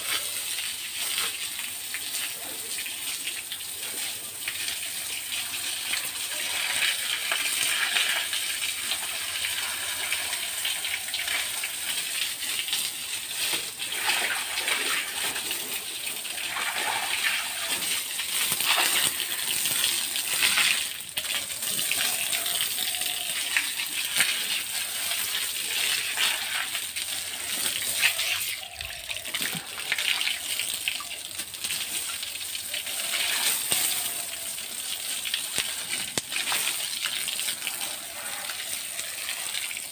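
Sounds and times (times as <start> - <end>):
water gushing and splashing: 0.0 - 39.9.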